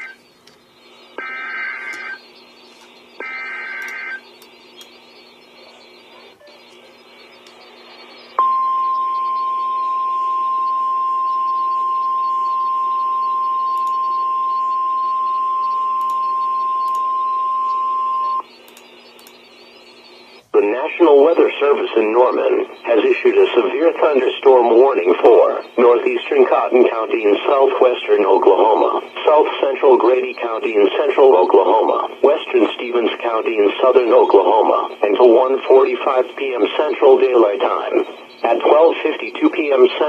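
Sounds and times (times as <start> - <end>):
radio hiss: 0.0 - 8.5, 9.4 - 40.0
digital data bursts: 0.0 - 40.0
steady alarm tone: 0.0 - 40.0.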